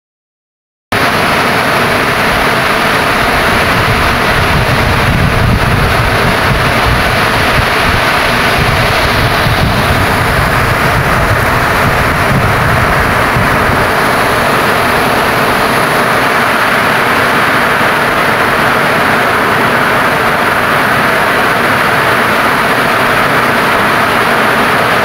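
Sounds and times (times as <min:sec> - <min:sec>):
rain falling: 0:01.0 - 0:25.0.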